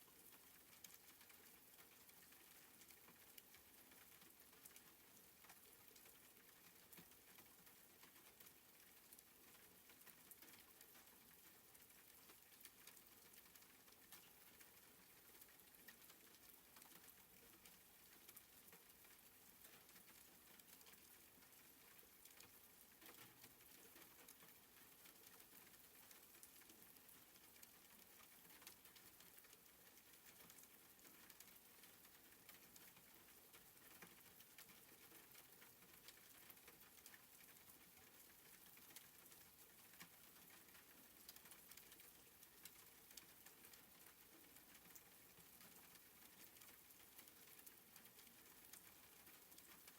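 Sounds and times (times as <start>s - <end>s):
light rain pattering: 0.0s - 49.9s.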